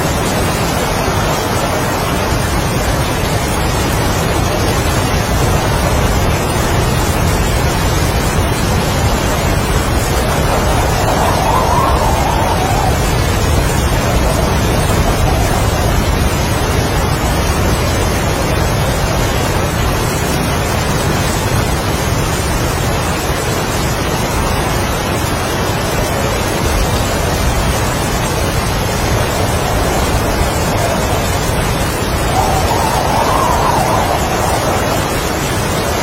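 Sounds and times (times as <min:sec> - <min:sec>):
heavy rain: 0:00.0 - 0:36.0
strong wind gusting: 0:00.0 - 0:36.0.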